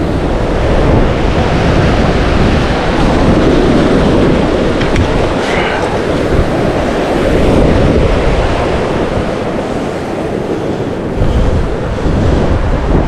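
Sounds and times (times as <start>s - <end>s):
ocean surf washing over rocks: 0.0s - 13.0s
wind buffeting microphone: 0.0s - 13.0s.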